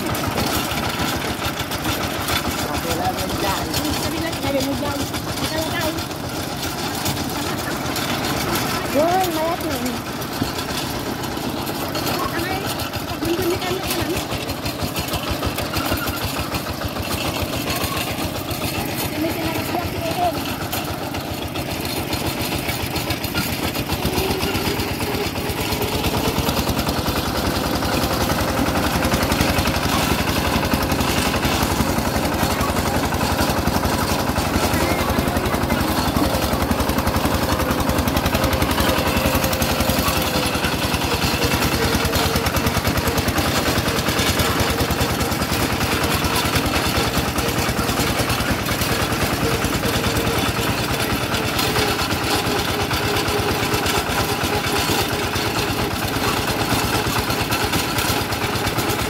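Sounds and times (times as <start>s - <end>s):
clatter over bumpy road: 0.0s - 59.0s
diesel engine chugging: 0.0s - 59.0s.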